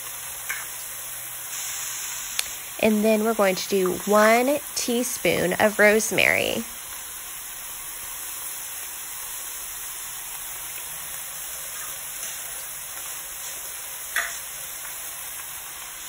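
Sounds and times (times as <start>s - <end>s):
food sizzling in a pot: 0.0s - 16.0s.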